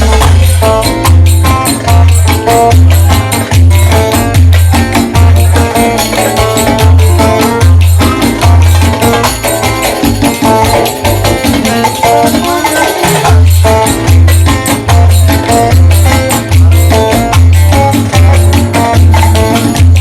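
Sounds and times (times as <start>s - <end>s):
folk-pop melody over bass beat: 0.0s - 20.0s
tambourine jingles: 0.0s - 20.0s.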